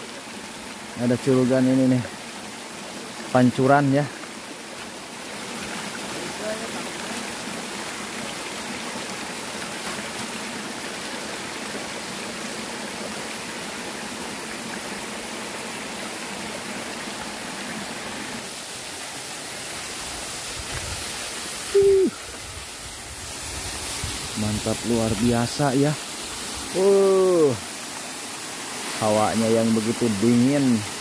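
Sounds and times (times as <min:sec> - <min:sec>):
small waterfall rushing: 0:00.0 - 0:31.0.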